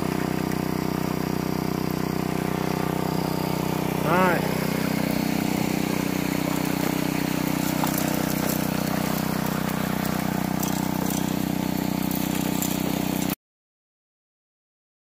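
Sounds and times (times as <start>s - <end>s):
small petrol engine running: 0.0s - 13.4s
water rushing through sluice box: 0.0s - 13.4s.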